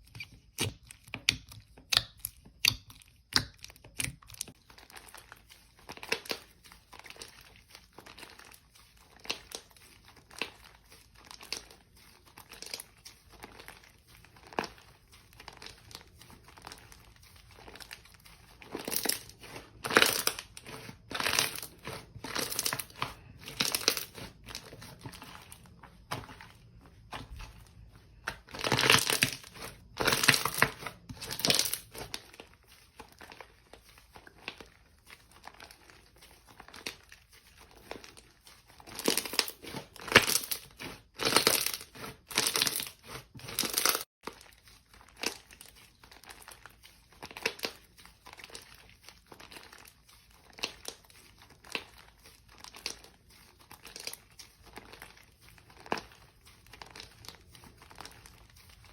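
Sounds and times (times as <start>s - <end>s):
slime squished by hand: 0.0s - 58.9s.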